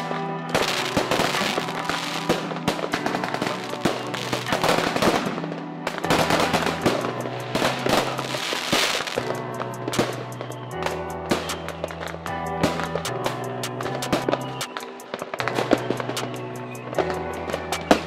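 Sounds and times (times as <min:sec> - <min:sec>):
fireworks bursting and crackling: 0:00.0 - 0:18.0
music with held tones: 0:00.0 - 0:18.0.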